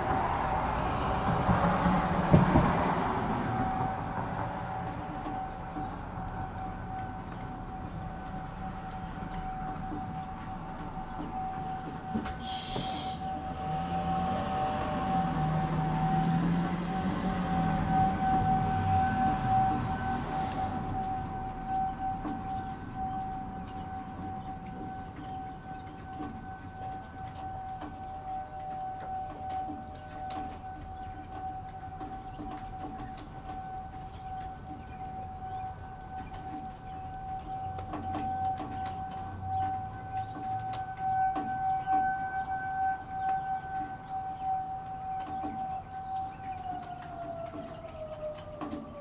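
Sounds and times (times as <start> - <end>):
outdoor warning siren: 0.0 - 49.0.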